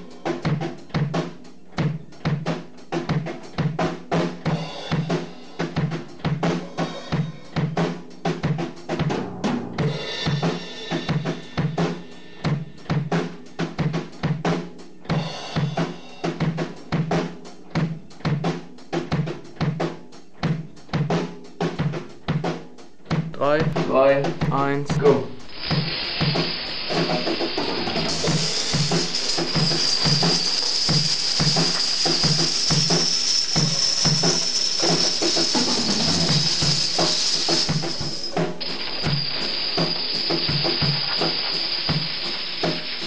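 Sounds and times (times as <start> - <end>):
drum kit beat: 0.0 - 43.0.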